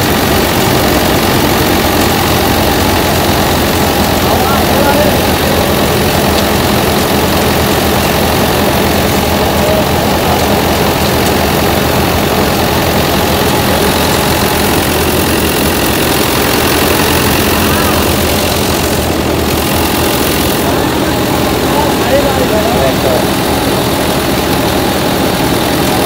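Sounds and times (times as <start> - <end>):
thresher machinery running: 0.0 - 26.0
tractor diesel engine: 0.0 - 26.0.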